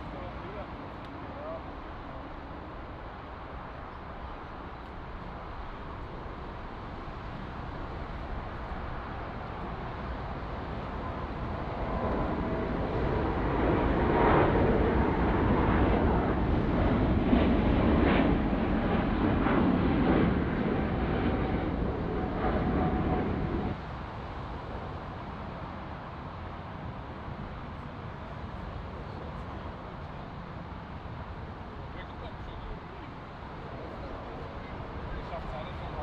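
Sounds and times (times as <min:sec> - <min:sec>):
jet airliner passing: 0:00.0 - 0:36.0.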